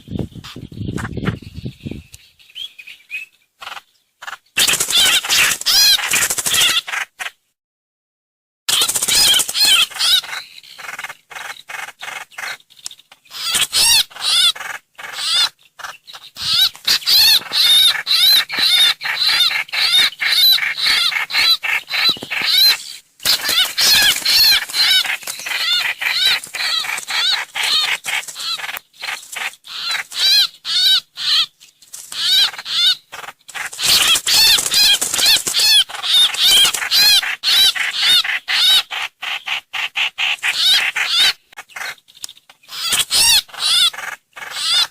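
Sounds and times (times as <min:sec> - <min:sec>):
bird sharp repeated chirps: 0:00.0 - 0:07.2, 0:08.7 - 0:44.9.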